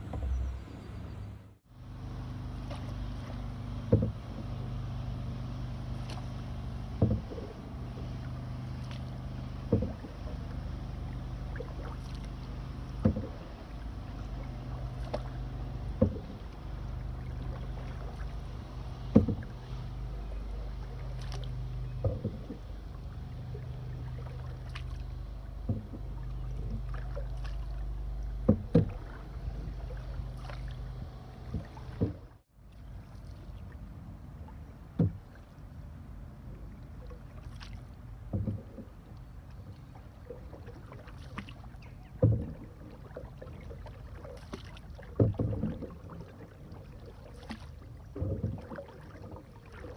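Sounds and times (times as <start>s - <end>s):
low water noise: 0.0s - 49.9s
paddle stroke knocking on canoe: 2.6s - 32.4s, 35.0s - 35.4s, 37.4s - 39.0s, 39.9s - 49.9s.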